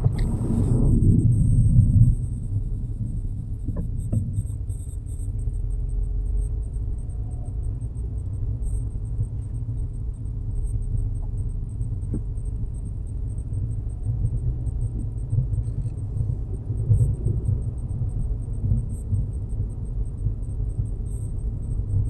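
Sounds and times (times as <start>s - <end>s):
car engine low rumble: 0.0s - 22.0s.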